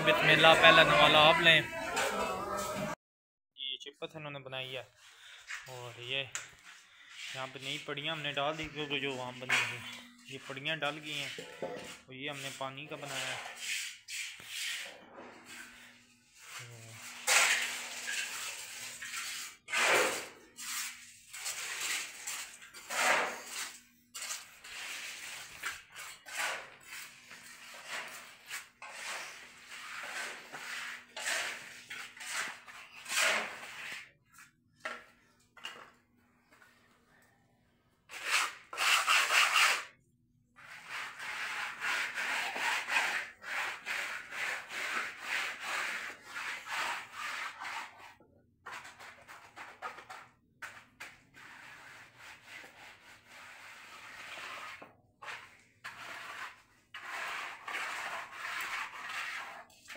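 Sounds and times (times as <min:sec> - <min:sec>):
trowel scraping wet concrete: 0:00.0 - 0:03.0, 0:04.9 - 0:36.6, 0:38.1 - 0:39.9, 0:40.6 - 0:59.9.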